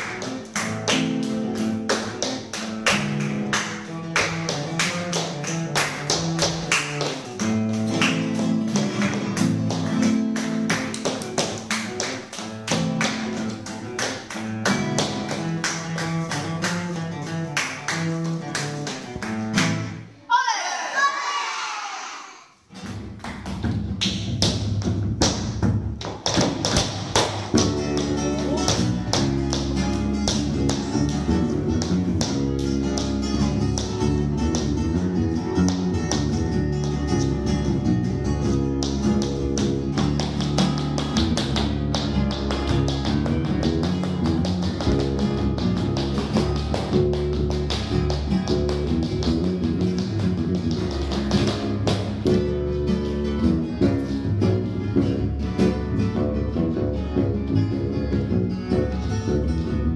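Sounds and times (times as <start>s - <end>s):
dancer's shoes tapping wooden floor: 0.0s - 20.0s, 22.7s - 54.6s
acoustic guitar playing flamenco: 0.0s - 20.2s, 22.7s - 59.9s.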